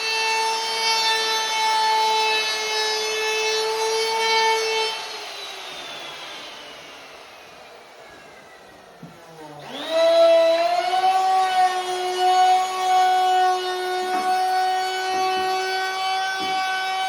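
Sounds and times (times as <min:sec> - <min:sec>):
electric wood router whining: 0:00.0 - 0:17.0.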